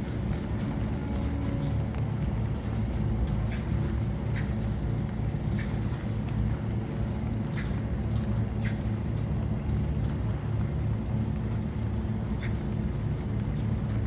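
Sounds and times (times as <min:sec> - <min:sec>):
exhaust fan humming: 0:00.0 - 0:14.0.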